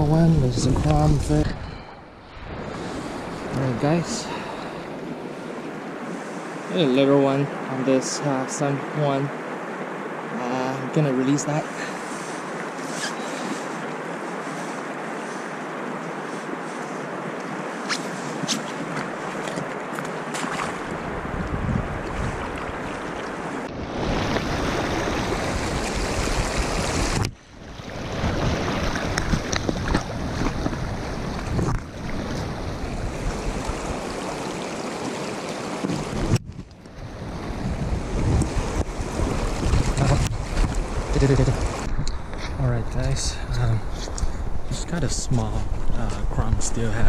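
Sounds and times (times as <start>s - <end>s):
river water rushing and splashing: 0.0s - 42.4s.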